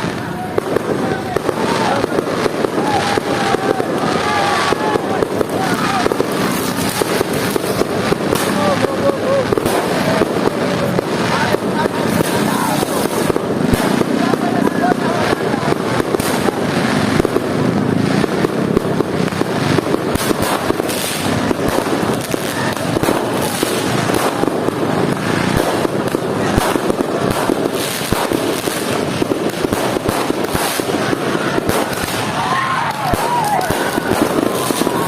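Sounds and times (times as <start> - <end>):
fireworks crackling and popping: 0.0 - 35.0
fireworks whistling: 0.0 - 35.0.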